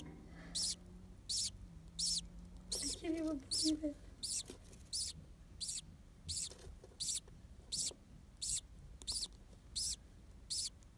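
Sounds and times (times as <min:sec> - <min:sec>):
budgerigar chirping: 0:00.6 - 0:10.8.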